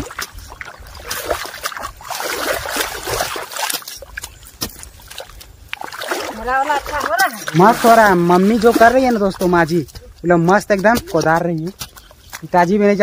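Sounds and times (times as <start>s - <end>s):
hoes chopping through wet mud: 0.0s - 13.0s
muddy water sloshing: 0.0s - 13.0s.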